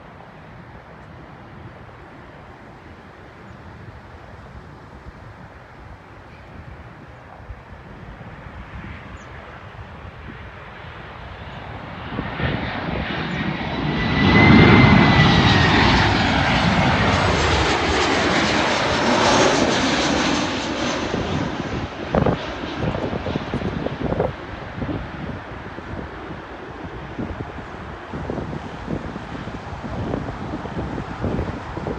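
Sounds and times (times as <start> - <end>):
high jet engine whine: 0.0 - 31.9
jet airliner passing: 0.0 - 31.9.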